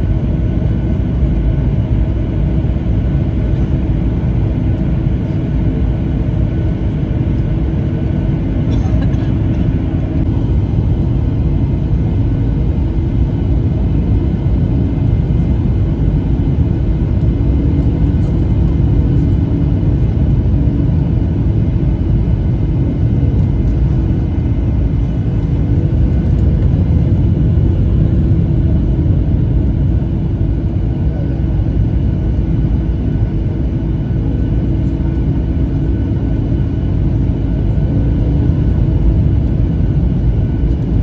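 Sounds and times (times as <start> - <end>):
jet engine and airflow rumble: 0.0 - 41.0.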